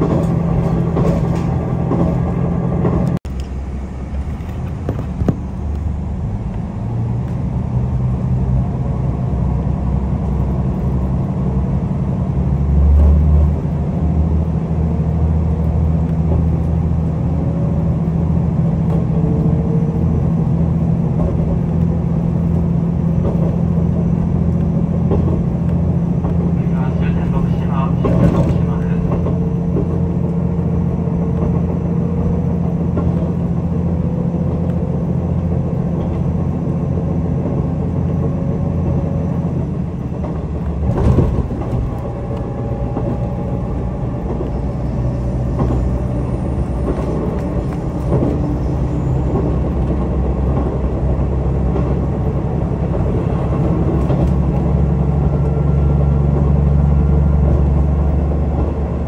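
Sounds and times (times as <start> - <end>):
diesel railcar drone: 0.0 - 59.0.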